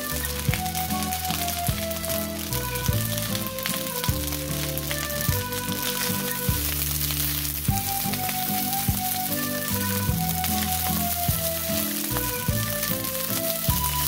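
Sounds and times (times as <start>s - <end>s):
background music with a beat: 0.0s - 14.0s
rice sizzling in a frying pan: 0.0s - 14.0s.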